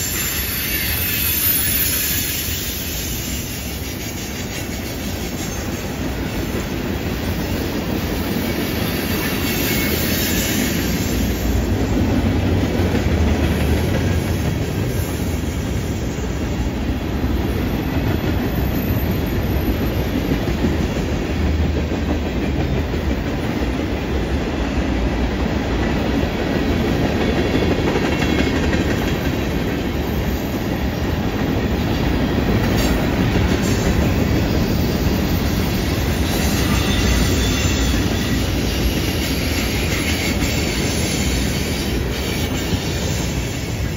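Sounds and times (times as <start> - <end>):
freight train wheels rumbling: 0.0 - 43.9.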